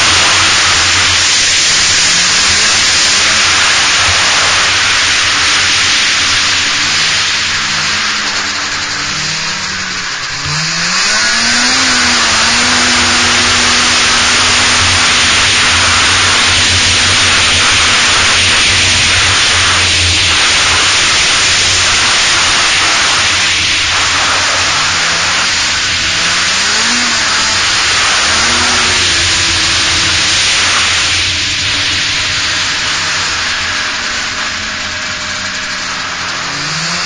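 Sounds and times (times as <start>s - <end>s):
snowmobile engine running: 0.0s - 37.0s
wind and track noise: 0.0s - 37.0s.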